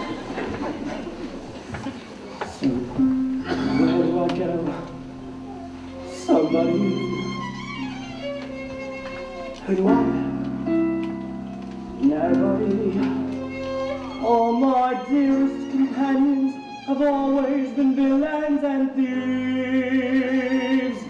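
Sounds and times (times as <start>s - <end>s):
pit orchestra playing: 3.0s - 21.0s.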